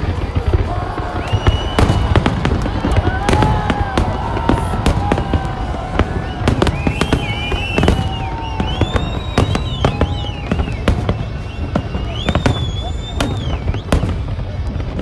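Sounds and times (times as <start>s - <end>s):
firework shells bursting: 0.0s - 14.6s
firework whistling: 0.0s - 15.0s.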